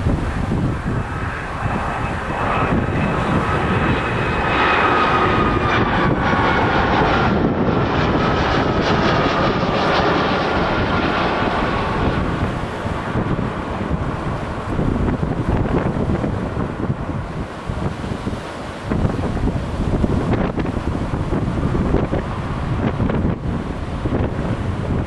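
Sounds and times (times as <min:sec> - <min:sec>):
jet engines whining: 0:00.0 - 0:25.0
wind noise on microphone: 0:00.0 - 0:25.0.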